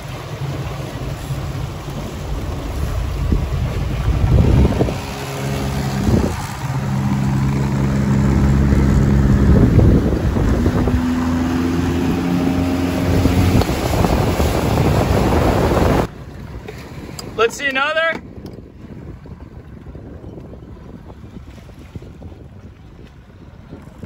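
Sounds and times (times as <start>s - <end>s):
motorboat engine running: 0.0s - 24.0s
wind buffeting microphone: 0.0s - 24.0s.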